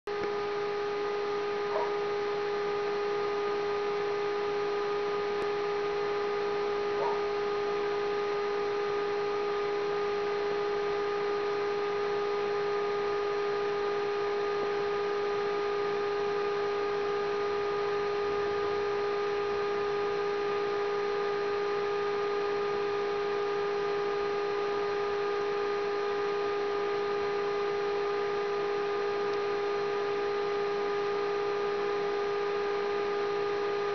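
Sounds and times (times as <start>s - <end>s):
electrical hum: 0.1s - 33.9s.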